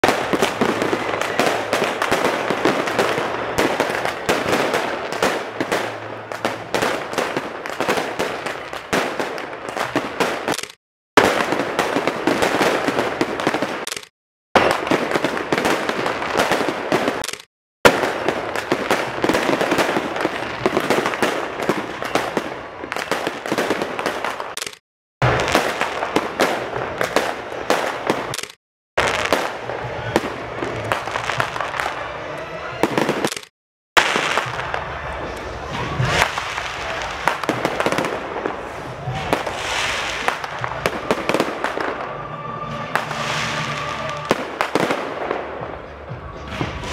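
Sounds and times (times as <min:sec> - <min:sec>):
fireworks crackling and banging: 0:00.0 - 0:46.9.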